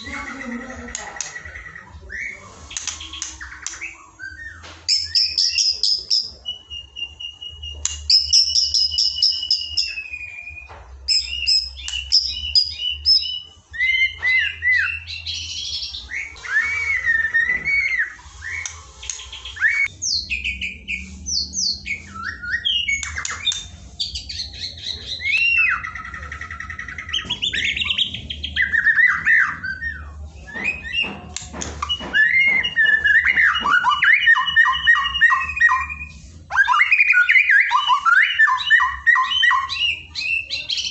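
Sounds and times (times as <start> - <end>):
birds singing trills and whistles: 0.0 - 40.9.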